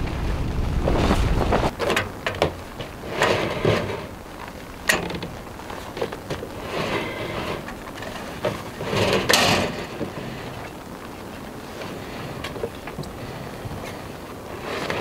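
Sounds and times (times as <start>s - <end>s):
wind rumble on microphone: 0.0s - 15.0s
camping gear knocks and rustles: 1.5s - 15.0s.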